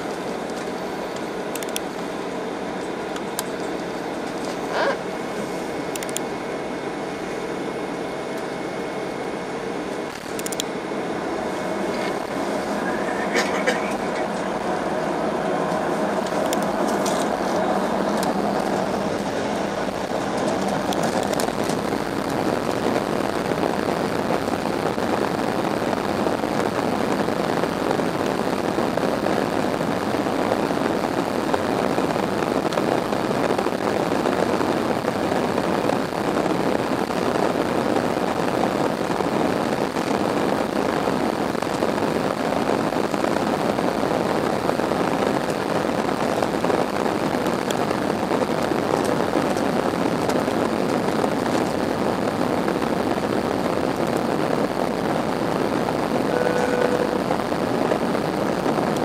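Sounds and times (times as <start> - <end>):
aircraft wheels rolling on runway: 0.0 - 59.0
jet engines roaring in cabin: 0.0 - 59.0.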